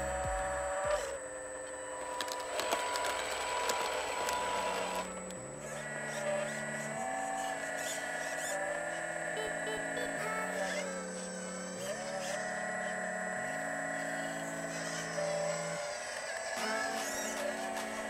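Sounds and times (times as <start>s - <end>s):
hydraulic pump whine: 0.0s - 18.0s.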